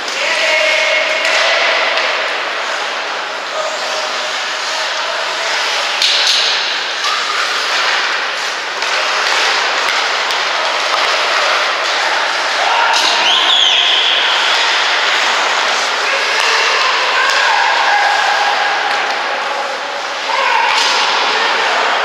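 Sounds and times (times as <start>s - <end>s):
hockey sticks and puck clacking: 0.0s - 22.0s
skates scraping on ice: 1.3s - 22.0s.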